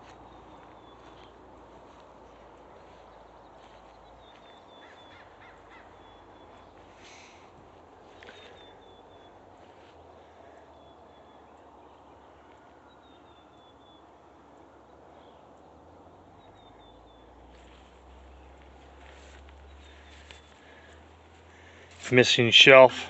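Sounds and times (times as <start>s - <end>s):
faint outdoor background noise: 0.0s - 23.0s.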